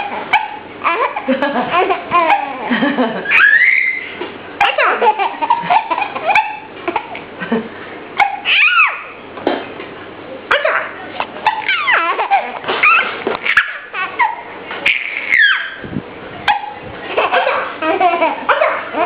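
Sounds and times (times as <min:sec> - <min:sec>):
baby laughing: 0:00.0 - 0:07.3, 0:08.2 - 0:09.2, 0:10.5 - 0:15.8, 0:16.4 - 0:19.0.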